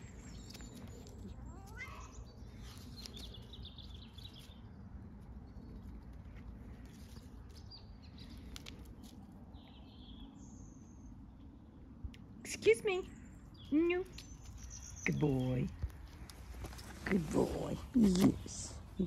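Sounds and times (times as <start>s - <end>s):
low rumble of wind: 0.0s - 19.0s.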